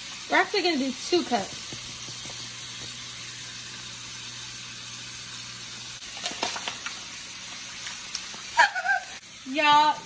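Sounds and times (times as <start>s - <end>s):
bacon and sausage sizzling: 0.0s - 10.0s.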